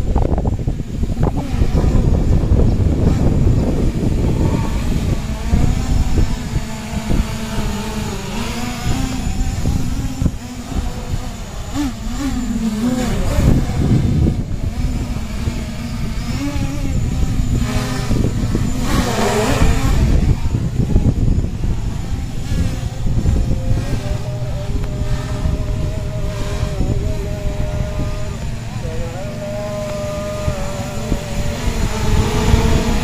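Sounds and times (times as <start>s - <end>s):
quadcopter propellers buzzing: 0.0s - 33.0s.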